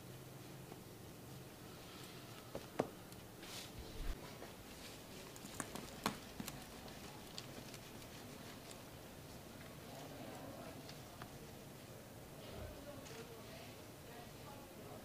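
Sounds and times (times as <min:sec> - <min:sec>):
soft handling noises: 0:00.6 - 0:13.7.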